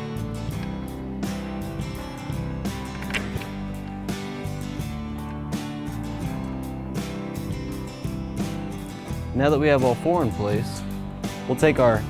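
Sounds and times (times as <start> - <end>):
acoustic guitar strumming: 0.0 - 11.5.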